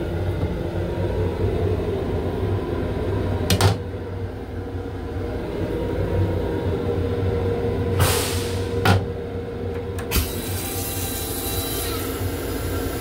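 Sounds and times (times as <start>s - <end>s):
railcar low rumble and hum: 0.0s - 13.0s.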